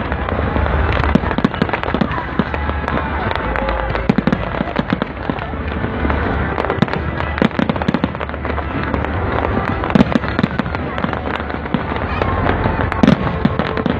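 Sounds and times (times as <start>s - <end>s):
fireworks bangs and crackles: 0.0s - 13.9s.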